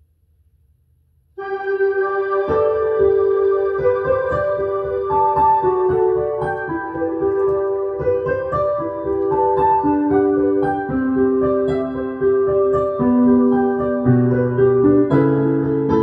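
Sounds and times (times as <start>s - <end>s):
electric piano backing track: 1.4s - 16.0s.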